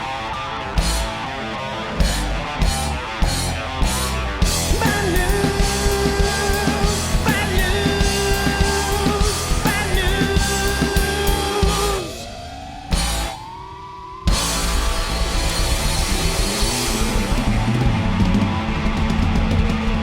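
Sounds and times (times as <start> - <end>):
rock music: 0.0 - 12.3, 12.9 - 13.6, 14.3 - 20.0.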